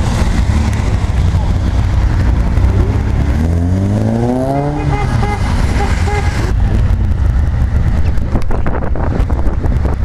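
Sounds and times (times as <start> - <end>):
car engine revving: 0.0 - 10.0
car engine rumbling: 0.0 - 10.0.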